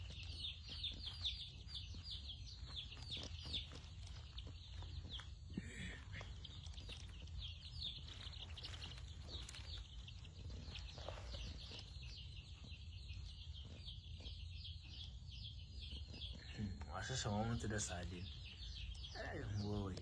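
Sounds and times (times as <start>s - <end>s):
chicks peeping: 0.0s - 20.0s
steady low hum: 0.0s - 20.0s.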